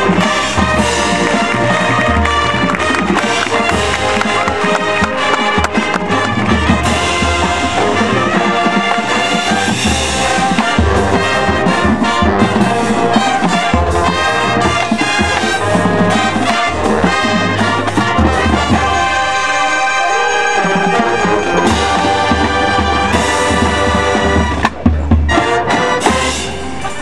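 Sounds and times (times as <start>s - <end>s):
brass chords: 0.0s - 27.0s
drum strokes: 0.0s - 27.0s.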